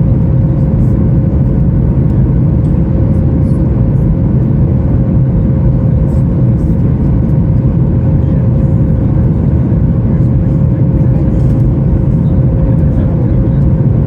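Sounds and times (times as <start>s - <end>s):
airplane cabin engine roar: 0.0s - 14.0s.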